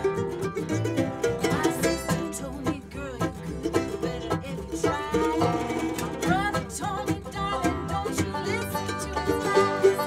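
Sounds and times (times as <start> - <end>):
banjo picking: 0.0 - 10.0
bluegrass string band playing: 0.0 - 10.0.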